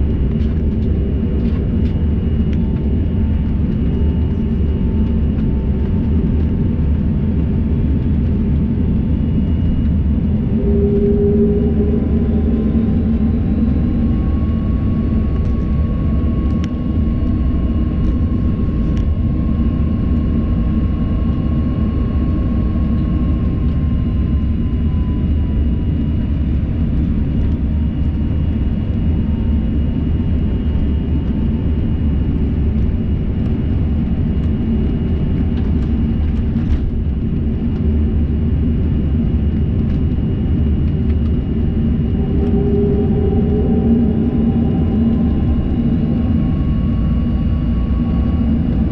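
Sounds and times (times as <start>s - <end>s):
jet engines rumbling and whining: 0.0s - 48.9s.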